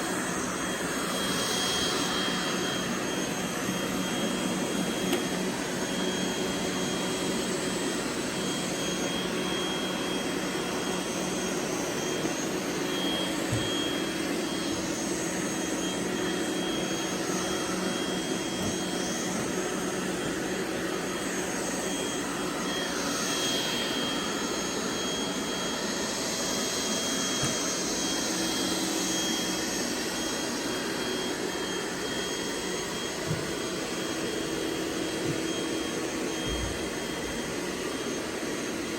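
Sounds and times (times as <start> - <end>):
robot vacuum cleaners whirring: 0.0 - 38.9.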